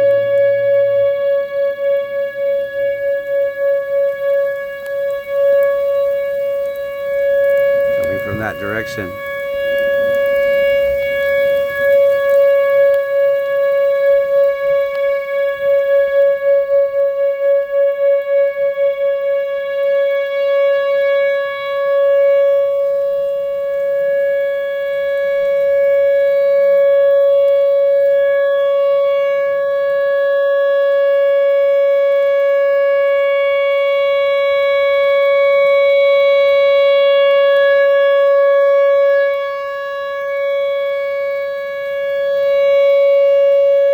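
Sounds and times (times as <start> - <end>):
warning siren steady tone: 0.0 - 43.9.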